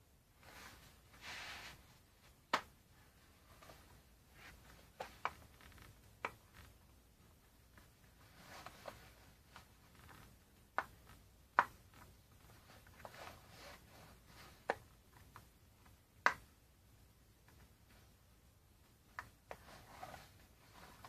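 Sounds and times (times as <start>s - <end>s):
soft rustling: 0.3s - 16.1s, 17.2s - 21.0s.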